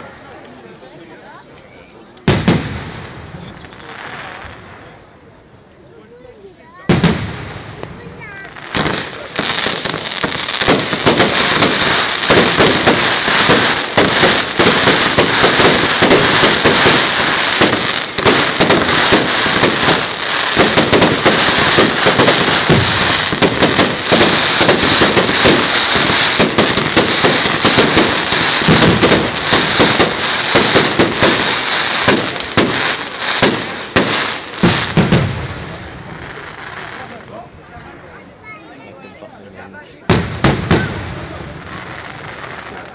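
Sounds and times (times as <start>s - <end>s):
fireworks banging and crackling: 2.1s - 5.0s, 6.8s - 38.6s, 39.9s - 42.9s.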